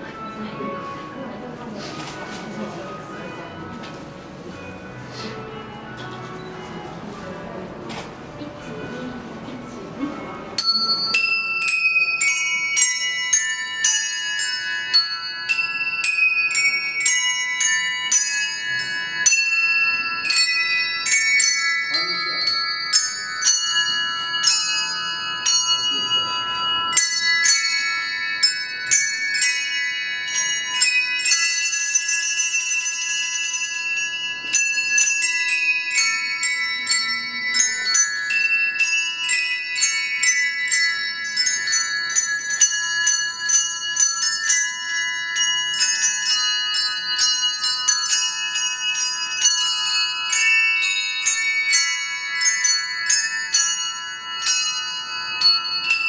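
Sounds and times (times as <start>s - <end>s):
handbell choir playing melody: 0.0s - 56.0s.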